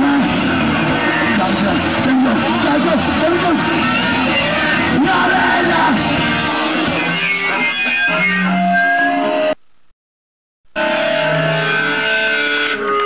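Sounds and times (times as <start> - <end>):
electric guitar through an amp: 0.0 - 9.6, 10.8 - 13.0.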